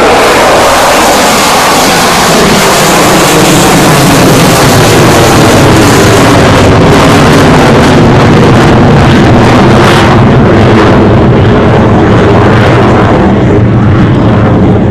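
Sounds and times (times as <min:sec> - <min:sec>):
fighter jet engine roar: 0:00.0 - 0:14.9.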